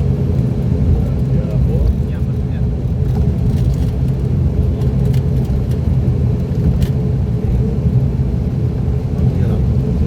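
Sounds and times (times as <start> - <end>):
turboprop engines droning: 0.0 - 10.0.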